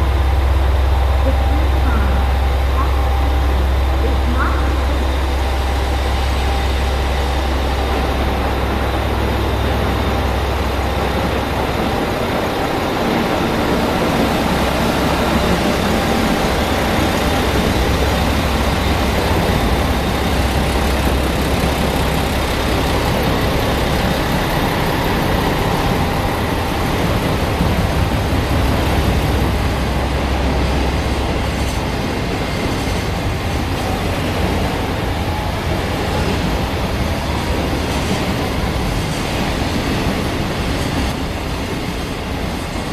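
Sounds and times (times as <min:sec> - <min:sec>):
diesel railcar engines humming: 0:00.0 - 0:42.9.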